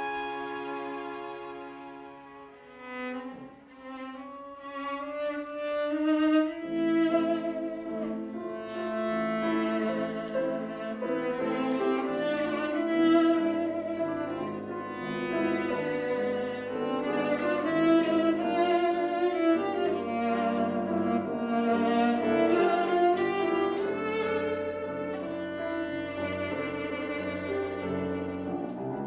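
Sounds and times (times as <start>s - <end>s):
cello: 0.0s - 29.0s
violin: 0.0s - 29.0s.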